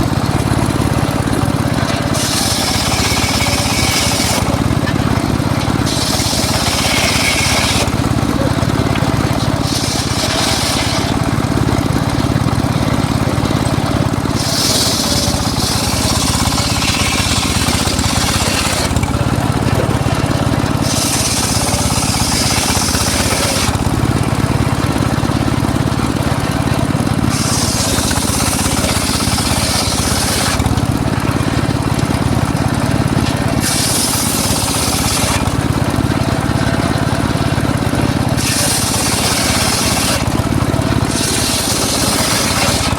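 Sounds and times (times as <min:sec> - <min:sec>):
saw blade cutting wood: 0:00.0 - 0:42.9
circular saw humming: 0:00.2 - 0:42.9.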